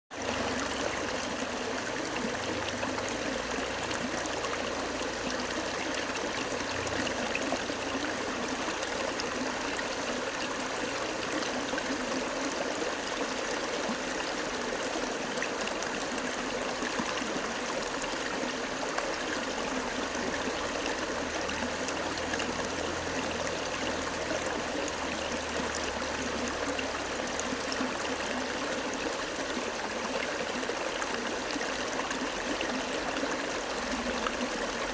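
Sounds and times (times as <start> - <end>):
water flowing: 0.1 - 34.9.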